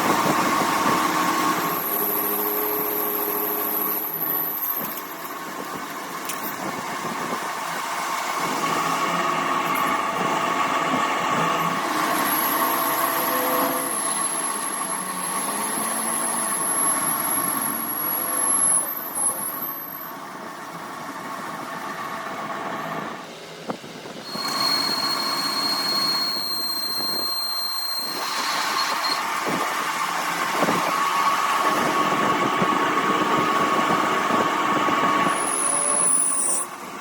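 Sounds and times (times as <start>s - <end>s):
workshop machinery whining: 0.0s - 37.0s.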